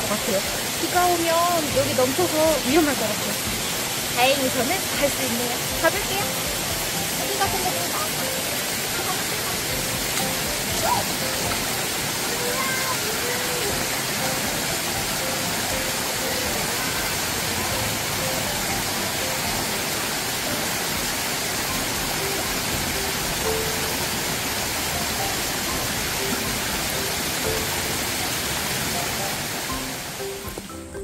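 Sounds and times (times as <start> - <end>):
faint background music: 0.0 - 31.0
mountain stream rushing: 0.0 - 31.0.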